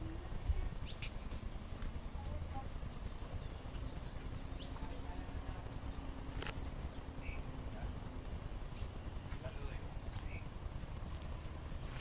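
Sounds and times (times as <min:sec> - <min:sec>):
bird chirping: 0:00.0 - 0:12.0
low steady rumble: 0:00.0 - 0:12.0.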